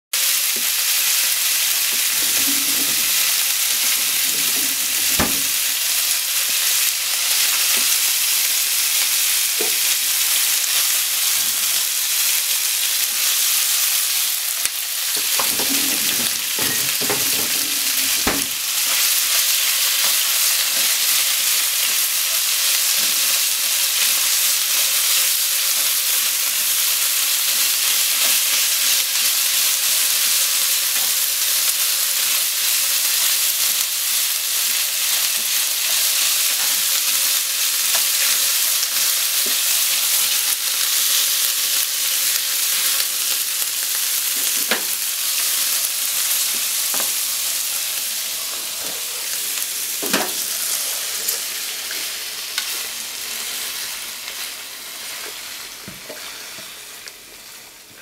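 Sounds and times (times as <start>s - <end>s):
meat sizzling in a frying pan: 0.2s - 58.0s.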